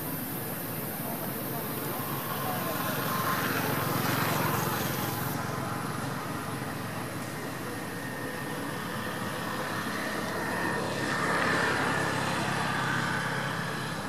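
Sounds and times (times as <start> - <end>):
passing traffic engines: 0.0 - 14.0.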